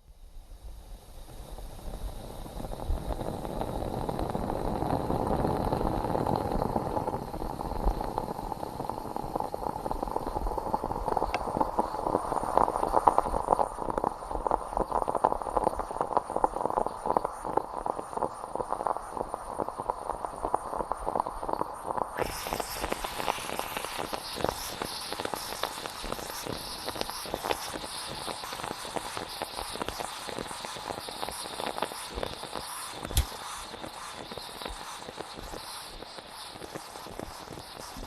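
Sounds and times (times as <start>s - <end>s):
moka pot gurgling and sputtering: 0.0s - 38.0s.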